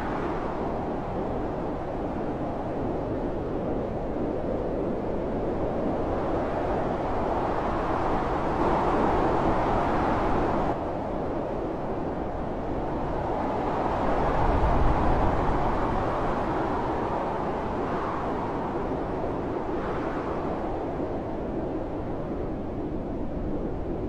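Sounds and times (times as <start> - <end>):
blizzard wind gusting: 0.0 - 24.0.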